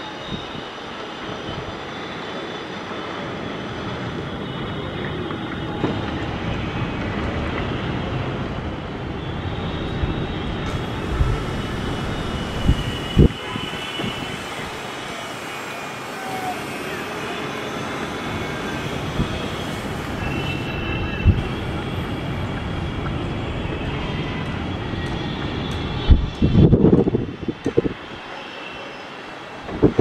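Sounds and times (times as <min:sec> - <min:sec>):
distant jet engine rumble: 0:01.3 - 0:27.9.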